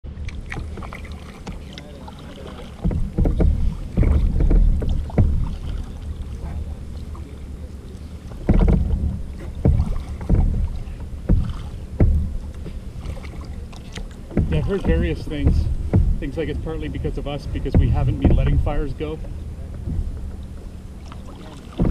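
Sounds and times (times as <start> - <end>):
paddle strokes splashing: 0.1 - 21.9
thuds knocking through kayak hull: 0.1 - 21.9.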